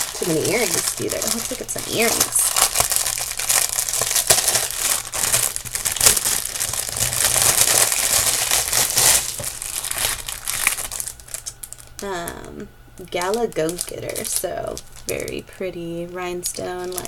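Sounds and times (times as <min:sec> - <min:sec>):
crinkly packaging crackling: 0:00.0 - 0:17.0.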